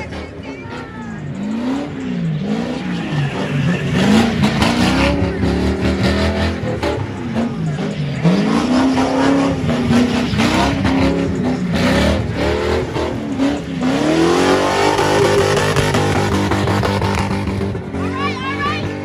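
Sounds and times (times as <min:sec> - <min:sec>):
car engine revving: 0:00.0 - 0:19.0
tire screech: 0:00.0 - 0:19.0.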